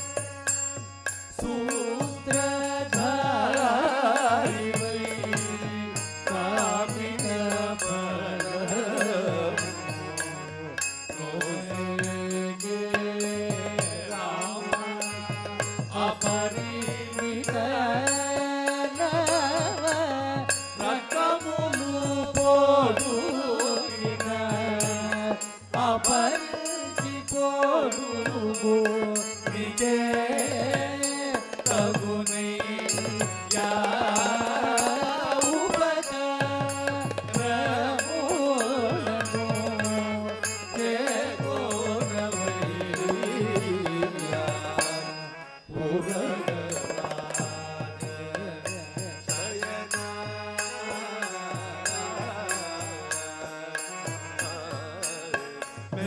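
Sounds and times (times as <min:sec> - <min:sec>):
person singing devotional song: 0:00.0 - 0:56.0.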